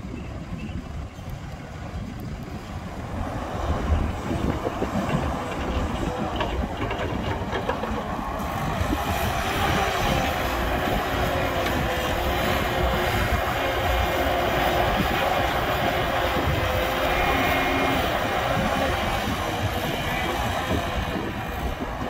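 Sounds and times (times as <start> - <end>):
excavator diesel rumble: 0.0 - 22.0.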